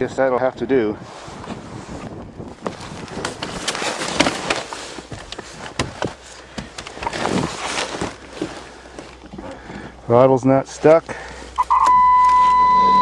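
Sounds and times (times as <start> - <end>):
rustling inside a car: 1.1 - 13.0.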